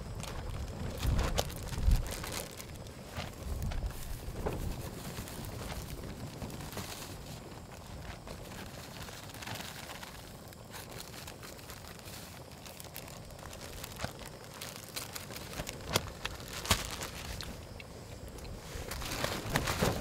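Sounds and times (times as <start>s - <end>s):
soft crinkling and rustling: 0.0s - 20.0s.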